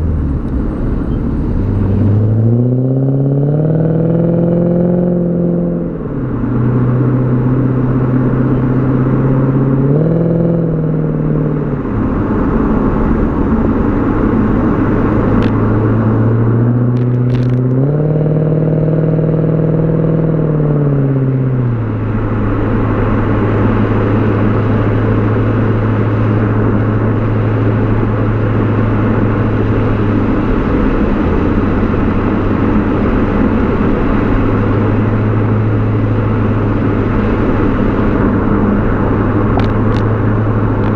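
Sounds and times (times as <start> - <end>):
car exhaust while driving: 0.0 - 40.9
road noise: 0.0 - 40.9.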